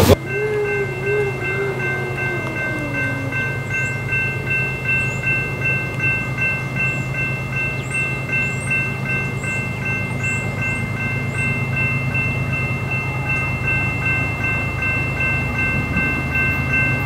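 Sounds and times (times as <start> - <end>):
railroad warning bell ringing: 0.0 - 17.0.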